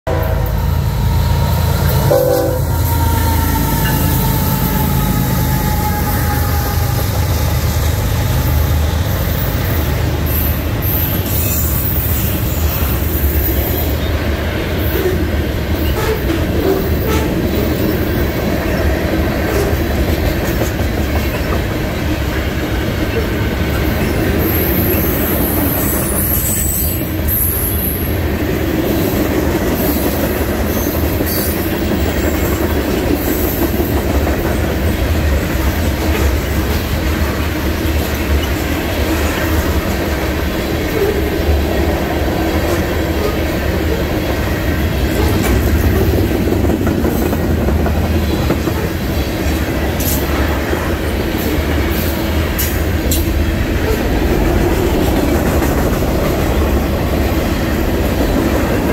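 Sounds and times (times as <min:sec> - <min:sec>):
freight train wheels rumbling: 0:00.0 - 0:58.9.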